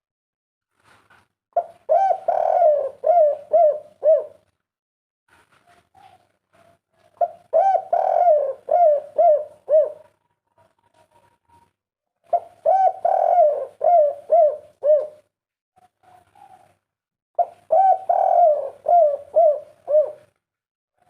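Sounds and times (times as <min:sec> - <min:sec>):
dove cooing: 0:01.6 - 0:04.5, 0:05.9 - 0:16.8, 0:17.4 - 0:20.4.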